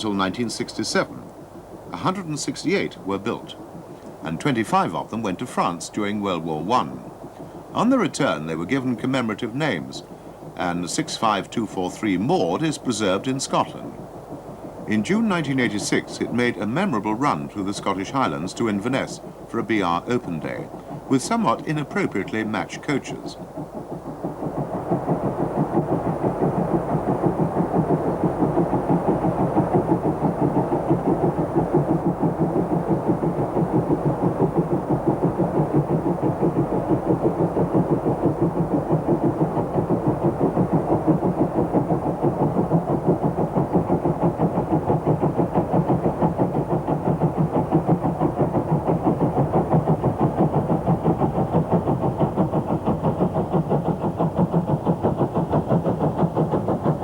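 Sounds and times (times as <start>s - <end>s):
steam locomotive chuffing: 0.0s - 57.0s.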